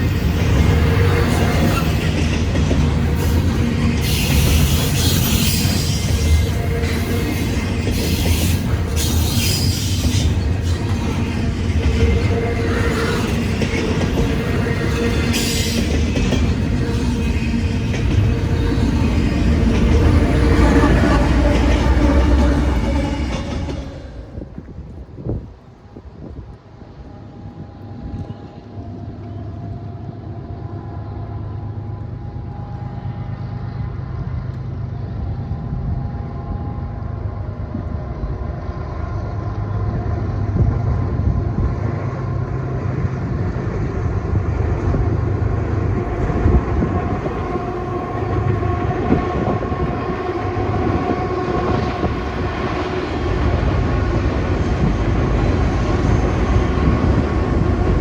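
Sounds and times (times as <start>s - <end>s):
locomotive engines droning: 0.0s - 58.0s
rail noise: 0.0s - 58.0s.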